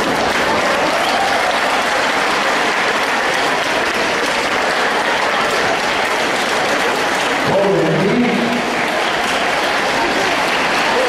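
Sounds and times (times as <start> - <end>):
large audience applauding: 0.0 - 11.0.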